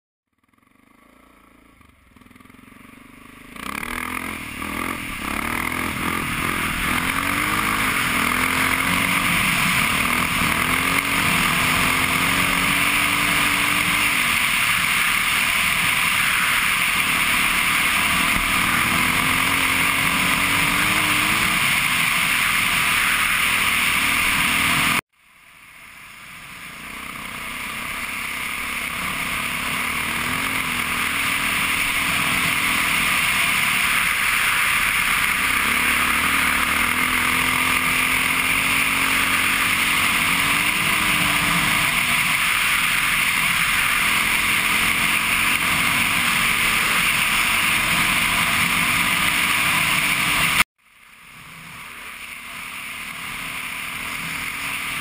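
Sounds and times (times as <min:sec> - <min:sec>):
dirt bike engine running: 0:00.3 - 0:55.0
wind and road noise hiss: 0:00.9 - 0:55.0.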